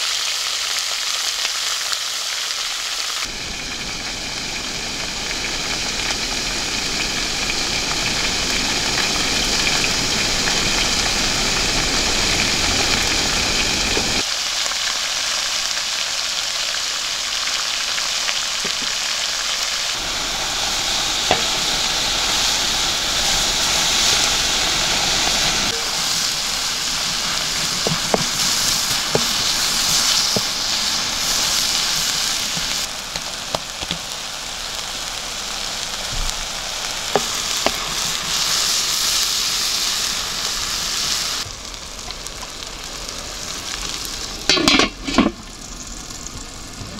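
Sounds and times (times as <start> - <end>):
chicken and onions sizzling: 0.0 - 46.9.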